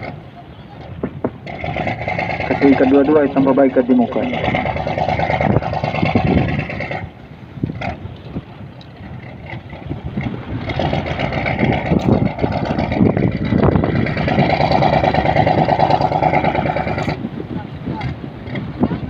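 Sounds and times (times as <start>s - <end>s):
boat motor chugging: 0.0s - 19.0s.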